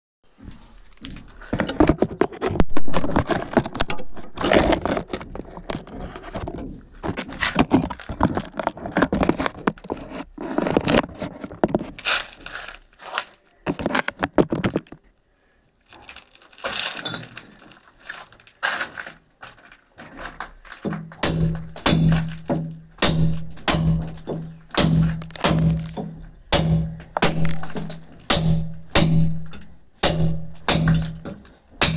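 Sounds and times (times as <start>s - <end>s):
hand tools scraping brick rubble: 0.8s - 15.0s, 15.9s - 31.9s.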